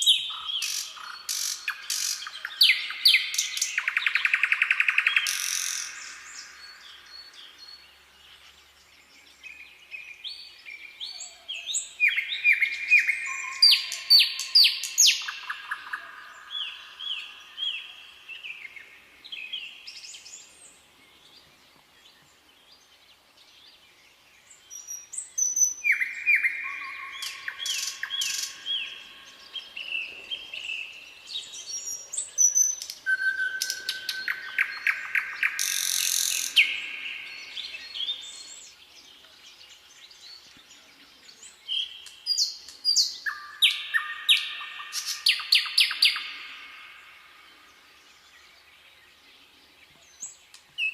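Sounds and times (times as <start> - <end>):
songbirds chirping: 0.0 - 50.9.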